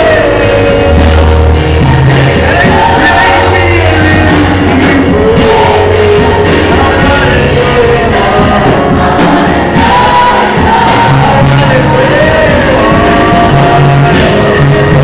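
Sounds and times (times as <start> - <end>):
man singing into a microphone: 0.0 - 15.0
steady bass accompaniment: 0.0 - 15.0.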